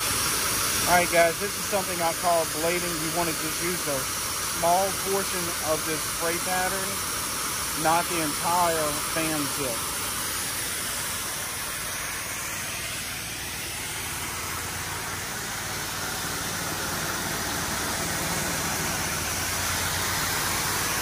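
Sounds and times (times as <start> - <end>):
pressure washer spray hissing: 0.0 - 21.0
low engine hum: 0.1 - 21.0.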